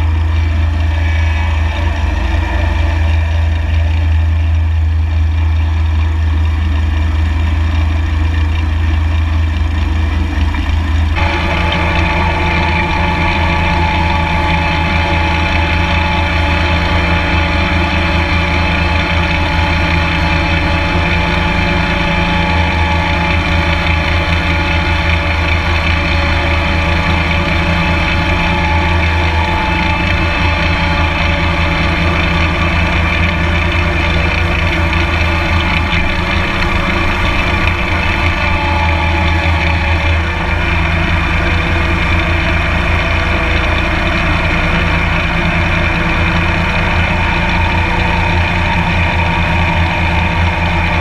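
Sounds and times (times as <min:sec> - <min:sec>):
mower engine running: 0:00.0 - 0:51.0.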